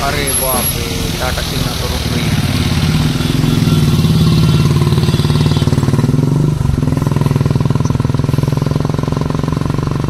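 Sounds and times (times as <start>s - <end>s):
heavy diesel truck engine labouring: 0.0s - 10.0s.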